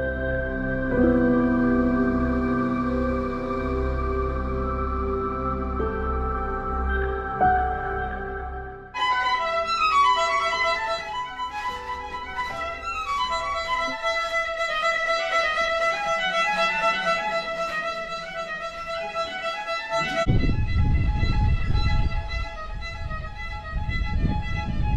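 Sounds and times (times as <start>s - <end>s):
violin melody: 0.0s - 24.9s.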